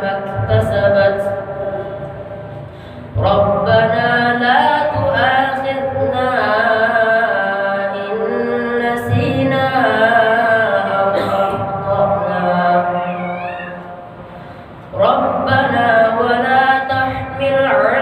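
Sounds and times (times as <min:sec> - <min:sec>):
boy chanting melodically: 0:00.0 - 0:14.0, 0:14.9 - 0:18.0.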